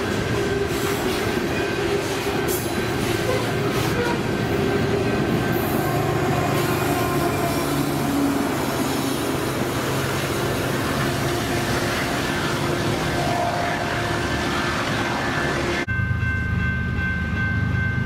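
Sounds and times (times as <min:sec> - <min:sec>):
diesel locomotive engine drone: 0:00.0 - 0:18.0
freight cars rumbling over rails: 0:00.0 - 0:18.0.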